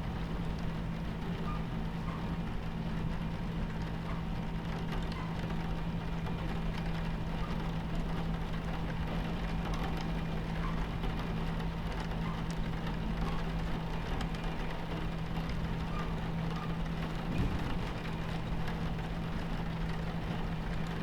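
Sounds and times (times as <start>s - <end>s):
moving train rumble: 0.0s - 21.0s
rain striking window: 0.1s - 21.0s.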